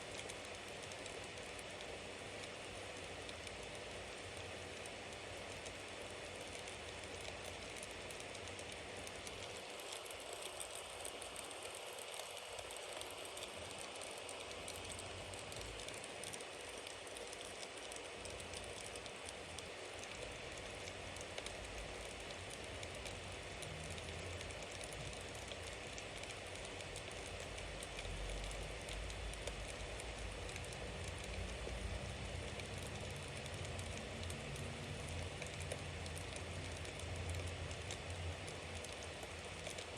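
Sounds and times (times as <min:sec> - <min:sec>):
bonfire hissing and crackling: 0:00.0 - 0:39.9.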